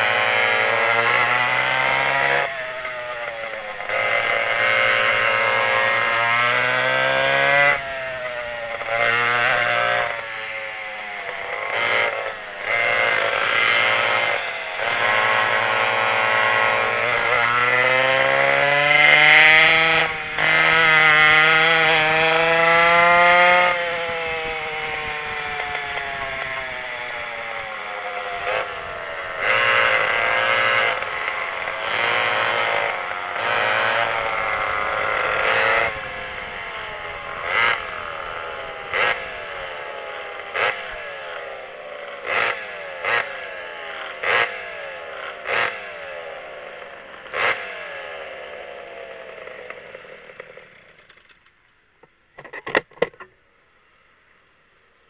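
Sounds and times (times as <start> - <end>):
kart engines revving: 0.0 - 51.6.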